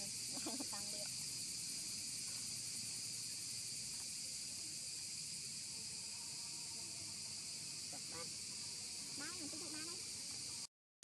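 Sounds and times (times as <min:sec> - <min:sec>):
insects droning: 0:00.0 - 0:10.7.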